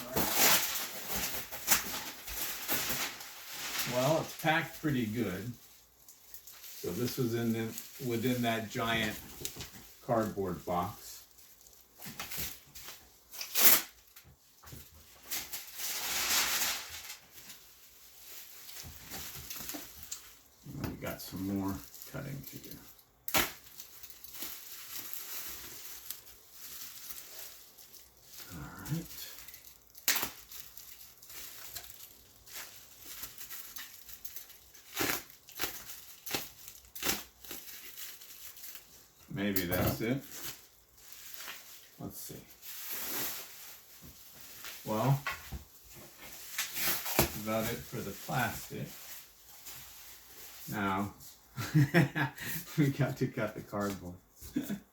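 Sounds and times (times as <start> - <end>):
plastic wrap rustling: 0.0 - 54.9.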